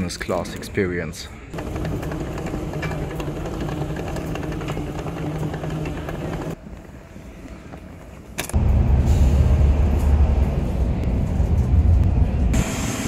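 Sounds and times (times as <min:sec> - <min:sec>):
bus engine rumbling: 0:01.6 - 0:13.0
moving walkway humming: 0:01.6 - 0:13.0.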